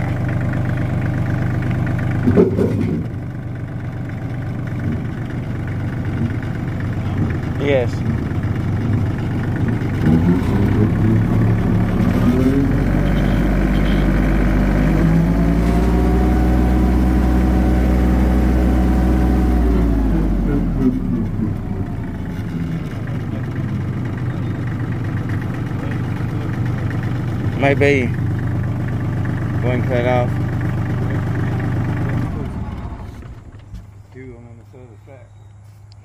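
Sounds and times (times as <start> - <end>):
rotary cutter running: 0.0 - 33.9
tractor diesel engine revving: 0.0 - 34.9.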